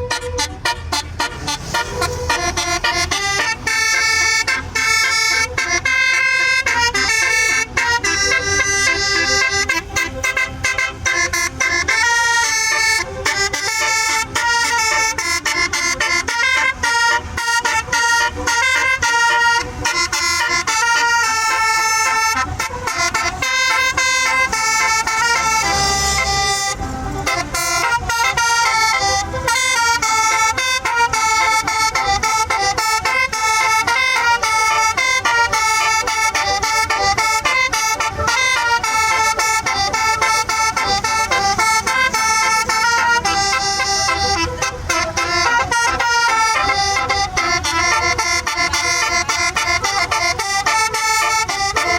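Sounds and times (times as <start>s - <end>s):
musical bus horn playing: 0.0s - 51.9s.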